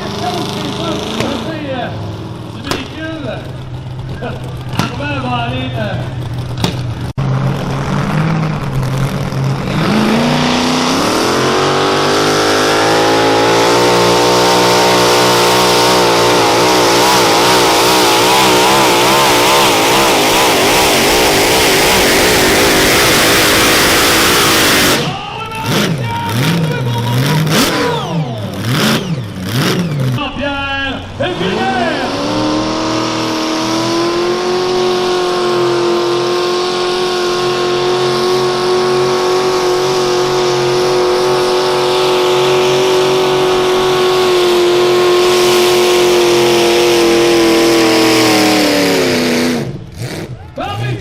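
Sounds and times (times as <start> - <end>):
tractor engine revving: 0.0 - 51.0.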